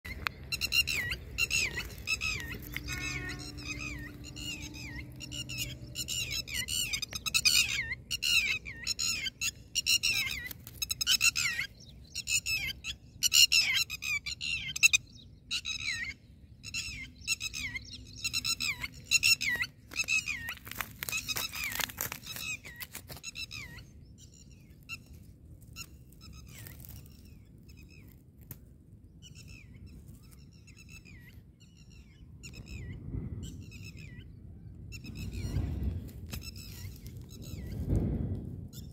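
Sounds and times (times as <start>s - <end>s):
lapwings calling: 0.1s - 28.6s, 29.2s - 37.9s.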